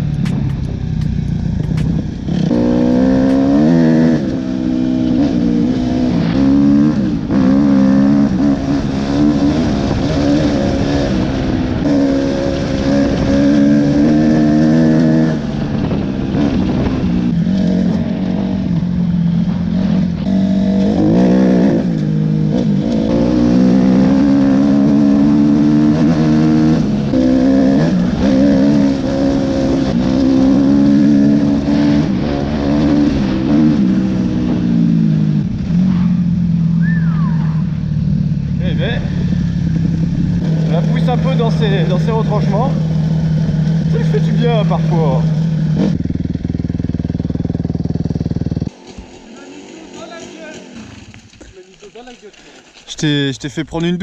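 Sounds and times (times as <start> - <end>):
motocross bike engine revving: 0.0 - 52.8.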